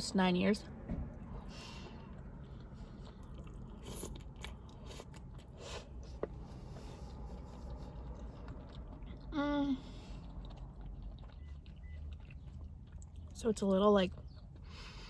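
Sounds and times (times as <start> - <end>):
person chewing food: 1.1 - 15.0.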